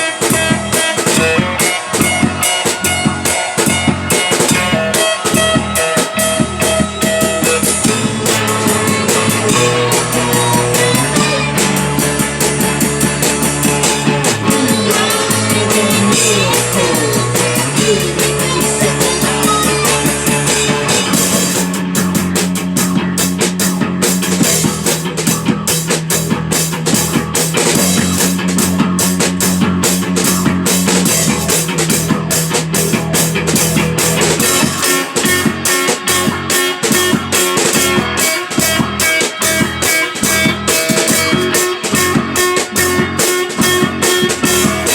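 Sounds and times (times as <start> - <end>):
drum kit: 0.0 - 44.9
guitars: 0.0 - 44.9
low held bass notes: 0.5 - 44.9.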